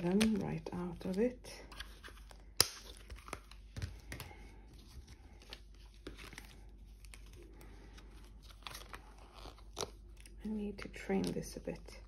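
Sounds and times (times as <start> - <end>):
stickers peeling with crinkling: 0.0 - 12.0.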